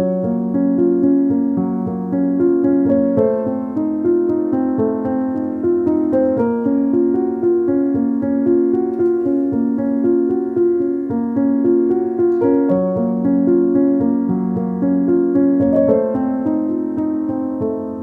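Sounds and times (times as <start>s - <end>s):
keyboard melody: 0.0s - 18.0s.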